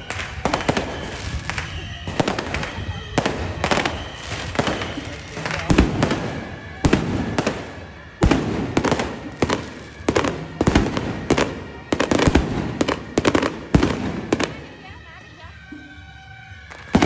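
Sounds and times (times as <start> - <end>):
firecrackers banging with echo: 0.0 - 17.0.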